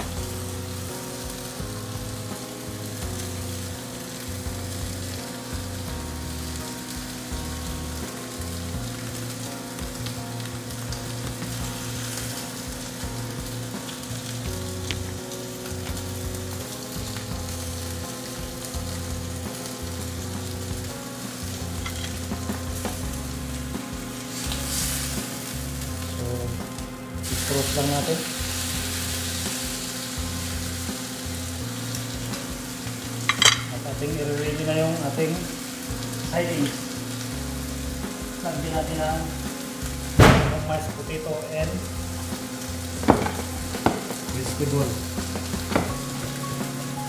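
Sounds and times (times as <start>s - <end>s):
steak sizzling in a grill pan: 0.0s - 47.0s.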